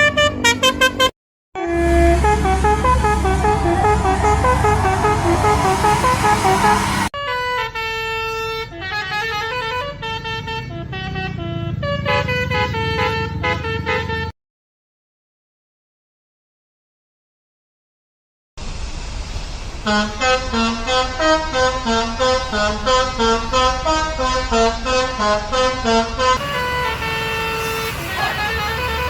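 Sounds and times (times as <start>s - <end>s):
musical air horn tunes: 0.0s - 14.3s, 19.8s - 29.0s.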